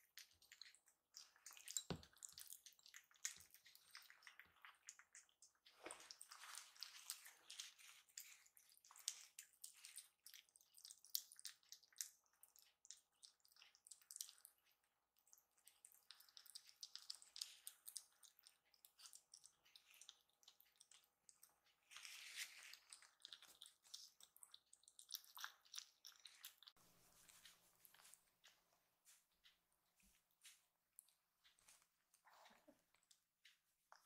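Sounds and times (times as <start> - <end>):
kittens eating: 0.0 - 34.0.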